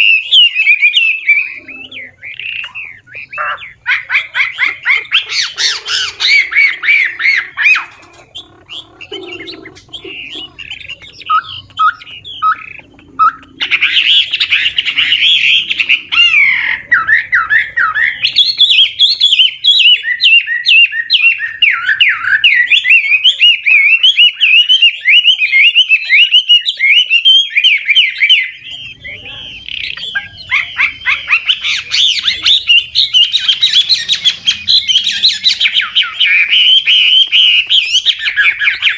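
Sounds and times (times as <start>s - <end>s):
bird singing whistled phrases: 0.0s - 4.0s, 4.6s - 38.9s.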